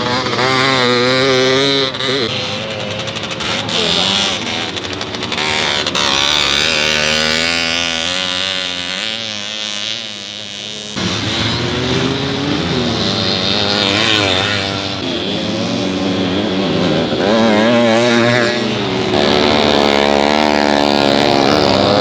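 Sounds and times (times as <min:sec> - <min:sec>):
motorcycle engines revving hard: 0:00.0 - 0:22.0.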